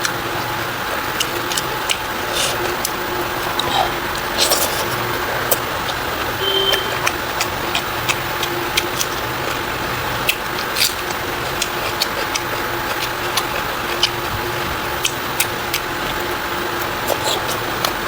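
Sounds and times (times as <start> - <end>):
mouth clicks and smacks eating: 0.0 - 18.0.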